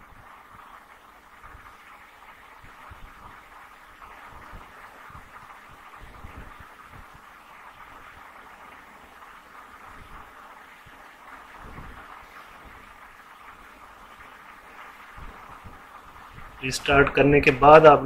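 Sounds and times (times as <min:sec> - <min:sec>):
copier cooling fans whirring: 0:00.0 - 0:18.0.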